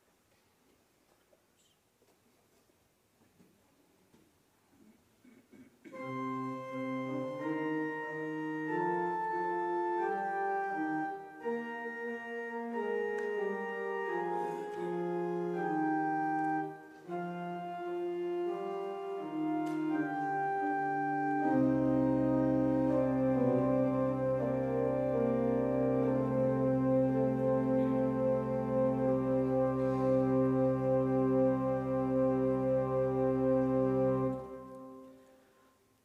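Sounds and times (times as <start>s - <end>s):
church organ chords: 5.9s - 35.3s.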